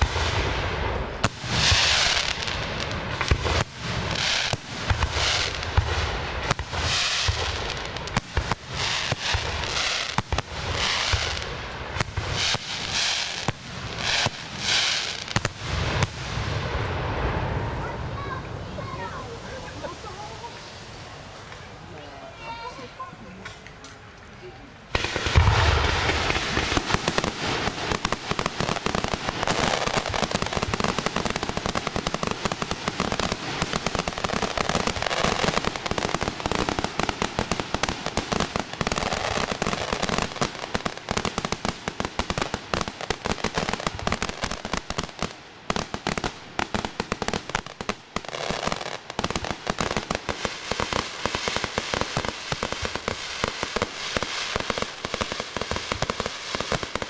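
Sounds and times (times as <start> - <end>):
firework bangs: 0.0 - 21.8, 24.9 - 57.0
fireworks crackling: 0.0 - 57.0.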